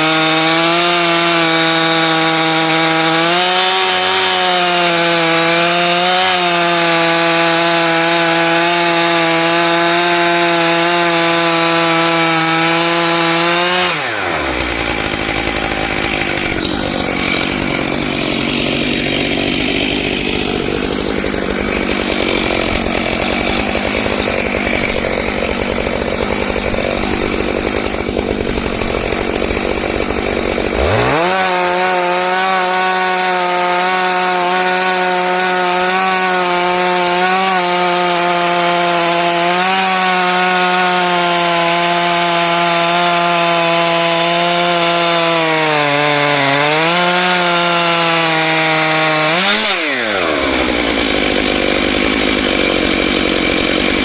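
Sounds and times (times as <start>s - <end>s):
chainsaw milling a log: 0.0s - 54.0s.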